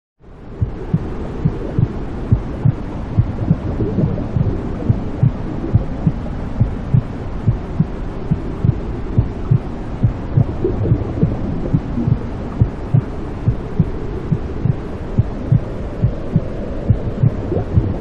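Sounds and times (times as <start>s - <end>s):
white noise: 0.2s - 18.0s
heartbeat thumps: 0.5s - 18.0s.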